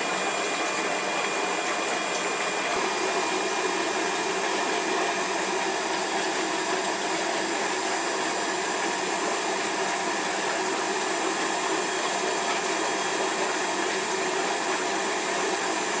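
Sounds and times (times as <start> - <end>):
aquarium filter water rushing: 0.0 - 16.0.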